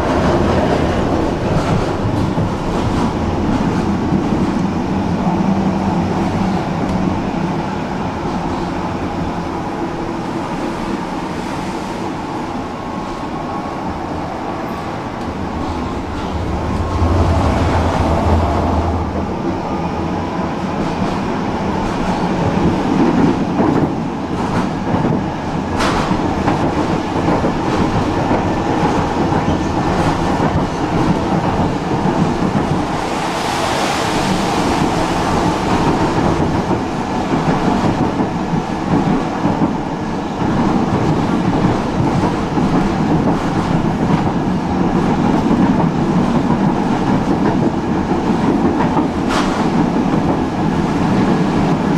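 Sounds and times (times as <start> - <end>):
tram wheels rumbling on rails: 0.0 - 51.9.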